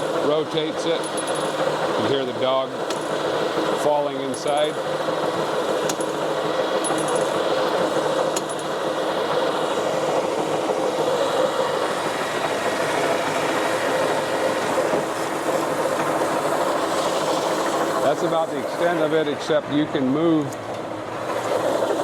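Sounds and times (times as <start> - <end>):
lathe clattering: 0.0 - 19.1.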